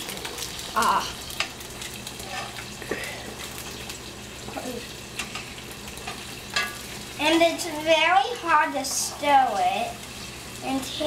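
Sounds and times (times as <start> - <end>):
eggs sizzling in a skillet: 0.0 - 11.0.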